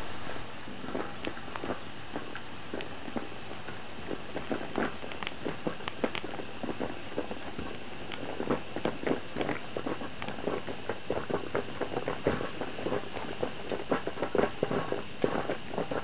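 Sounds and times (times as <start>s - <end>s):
coffee percolator bubbling: 0.6s - 16.0s.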